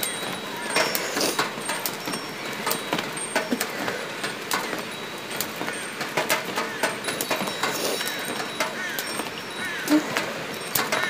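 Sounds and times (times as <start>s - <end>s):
sharp clicks and crackles: 0.0s - 11.0s
steady noisy hiss: 0.0s - 11.0s.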